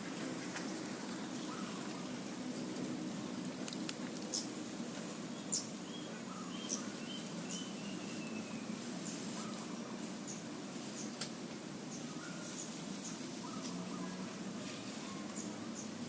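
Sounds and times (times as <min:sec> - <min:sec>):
birds chirping: 0:00.0 - 0:11.2, 0:11.8 - 0:16.0
steady low background noise: 0:00.0 - 0:16.0.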